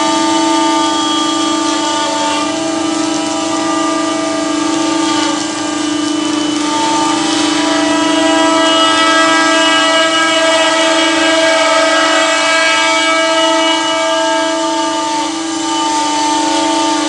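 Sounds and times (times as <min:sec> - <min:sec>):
engraving machine spindle whining: 0:00.0 - 0:17.0.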